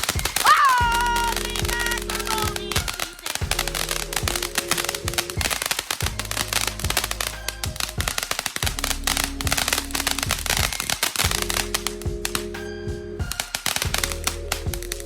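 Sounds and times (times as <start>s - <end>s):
firework crackling and popping: 0.0s - 12.4s, 13.2s - 15.0s
background music: 0.0s - 15.0s.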